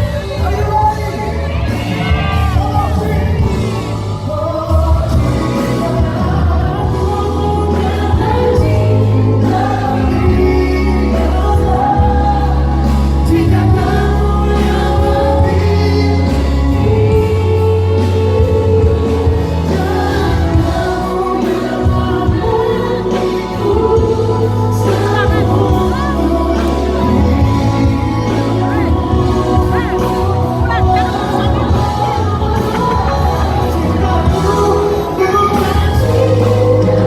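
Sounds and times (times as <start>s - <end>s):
bass line: 0.0s - 37.0s
live pop band: 0.0s - 37.0s
person singing: 0.0s - 37.0s.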